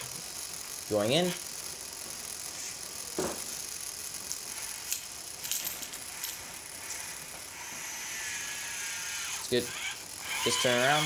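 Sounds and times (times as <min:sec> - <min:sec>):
mechanical background hum: 0:00.0 - 0:11.0.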